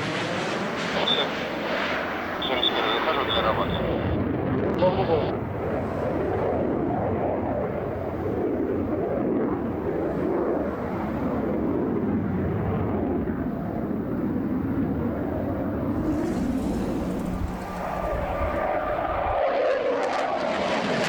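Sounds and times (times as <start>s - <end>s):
fighter jet flying past: 0.0s - 21.0s.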